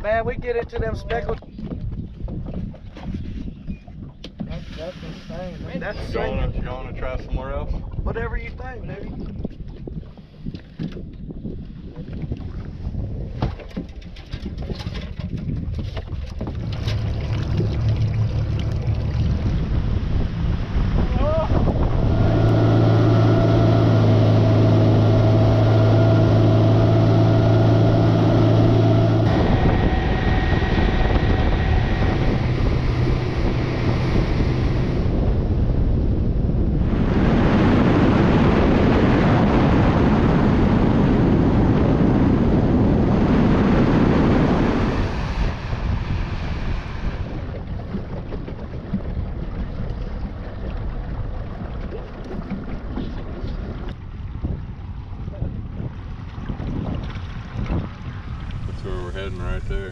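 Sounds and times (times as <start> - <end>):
wind noise: 0.0 - 59.9
outboard motor running: 0.1 - 59.9
water spray rushing along hull: 4.4 - 6.1, 11.8 - 35.8, 36.6 - 59.9.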